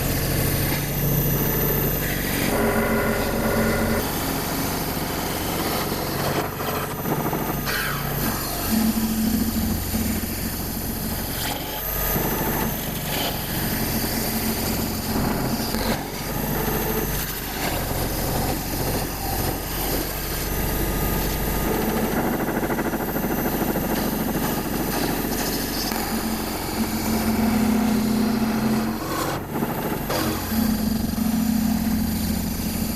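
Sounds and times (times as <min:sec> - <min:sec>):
cutter crackle: 0:00.0 - 0:32.9
router spindle hum and whine: 0:00.0 - 0:32.9
vacuum pump running: 0:00.0 - 0:32.9.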